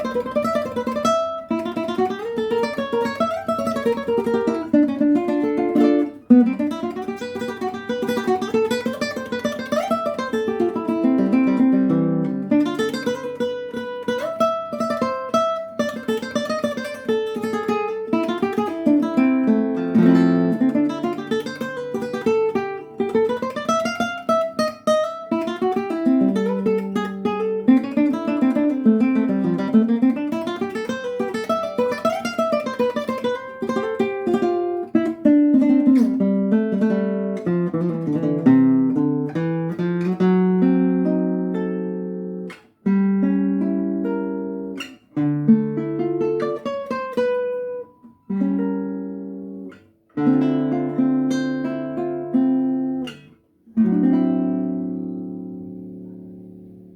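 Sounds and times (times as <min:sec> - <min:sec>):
solo guitar picked melody: 0:00.0 - 0:56.9.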